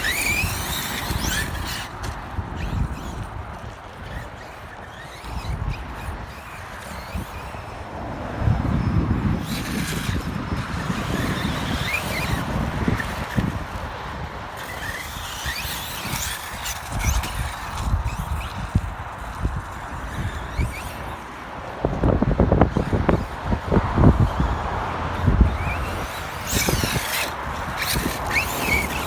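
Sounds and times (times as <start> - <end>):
electric motor whining: 0.0 - 29.0
wind rumble on microphone: 0.0 - 29.0.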